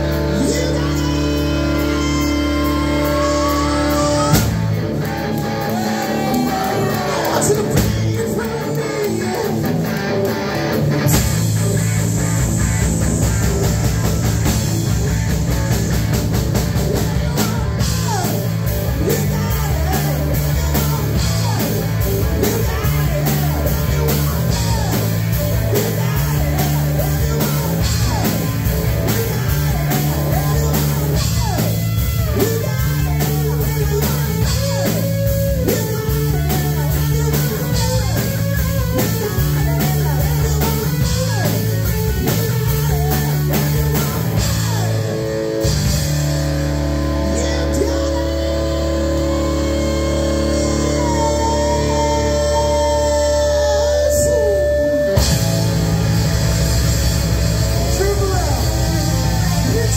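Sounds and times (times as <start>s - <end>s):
electric guitar bending notes: 0.0s - 59.9s
live rock band playing: 0.0s - 59.9s.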